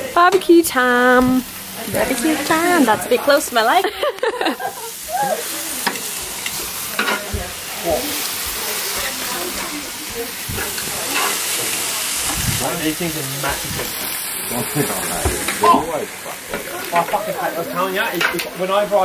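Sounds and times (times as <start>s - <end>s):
food sizzling on hotplate: 0.0s - 19.0s.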